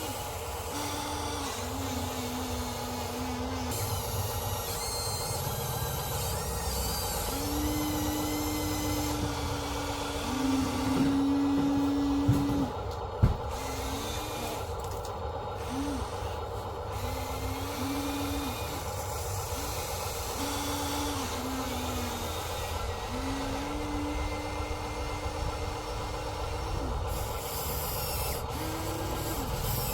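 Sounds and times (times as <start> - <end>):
small electric motors whining: 0.0 - 29.9
steady mechanical hum: 0.0 - 29.9.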